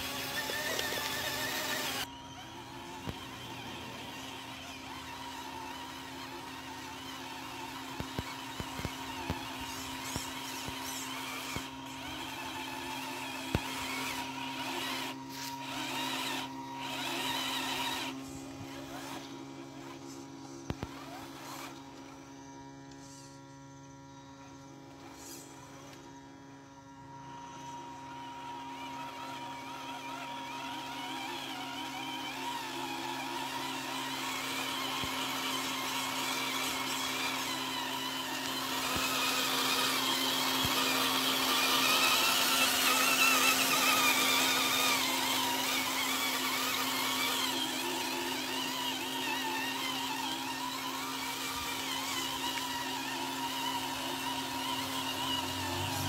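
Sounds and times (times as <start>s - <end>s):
model truck motor whining: 0.0s - 56.0s.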